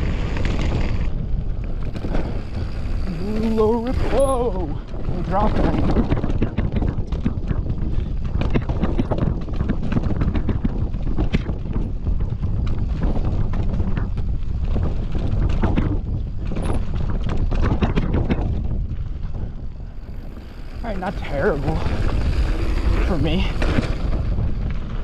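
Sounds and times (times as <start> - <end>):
bike knocking and rattling: 0.0 - 25.0
bike tyres rumbling on dirt: 0.0 - 25.0.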